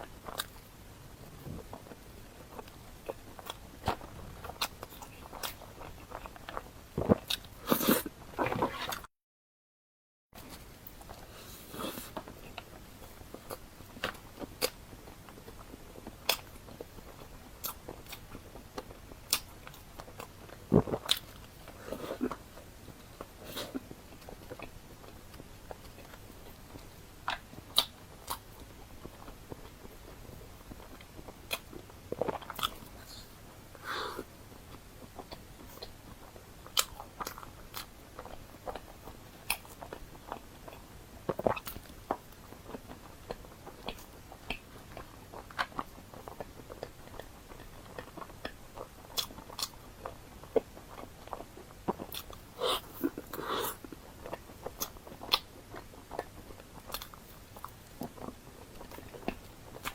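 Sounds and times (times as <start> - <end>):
person chewing food: 0.0 - 9.0, 10.4 - 59.9.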